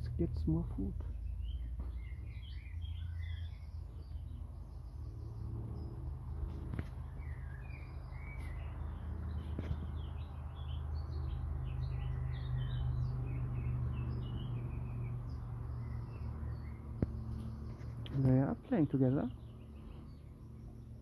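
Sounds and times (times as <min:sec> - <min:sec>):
birds chirping and singing: 0:00.0 - 0:21.0.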